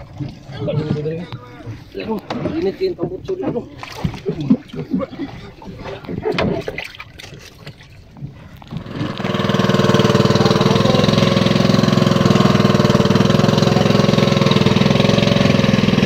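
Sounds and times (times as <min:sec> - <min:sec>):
small boat engine running: 0:00.0 - 0:16.0.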